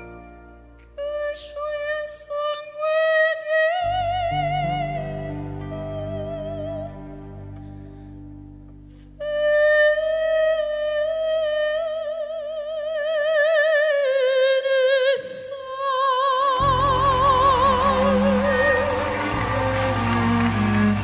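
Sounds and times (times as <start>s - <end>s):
soft sustained backing music: 0.0s - 21.0s
woman singing operatically: 1.0s - 7.0s, 9.2s - 21.0s.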